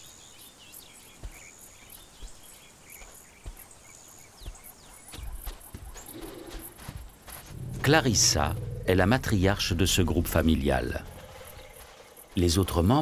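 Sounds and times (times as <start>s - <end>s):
elephants walking on sand: 0.7s - 13.0s.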